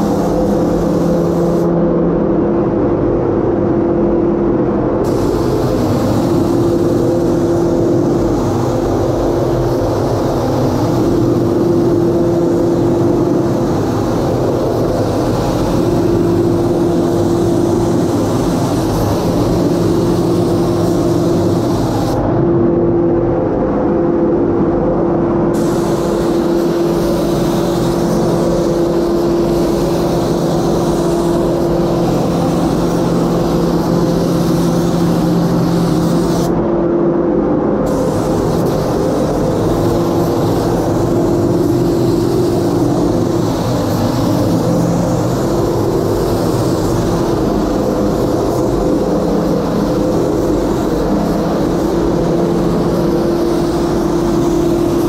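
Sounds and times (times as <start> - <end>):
spray gun hissing: 0.0 - 1.8, 5.0 - 22.2, 25.6 - 36.6, 37.9 - 55.0
steady droning hum: 0.0 - 55.0.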